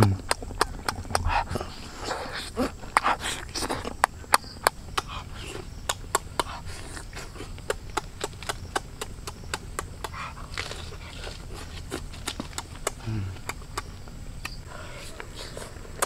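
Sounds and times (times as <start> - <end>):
person chewing and lip smacking: 0.0 - 16.0.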